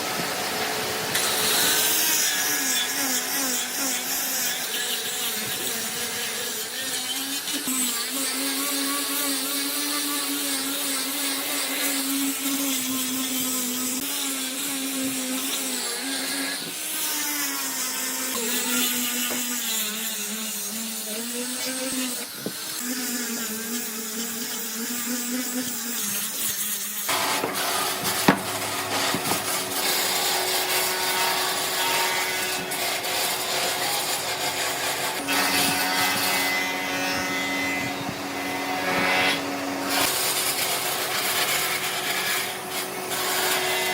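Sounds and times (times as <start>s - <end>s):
power tool rasping wood: 0.0s - 43.9s.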